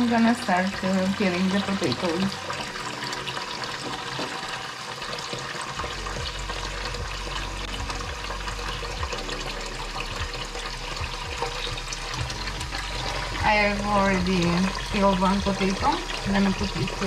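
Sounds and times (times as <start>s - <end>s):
tap water splashing into basin: 0.0s - 17.0s.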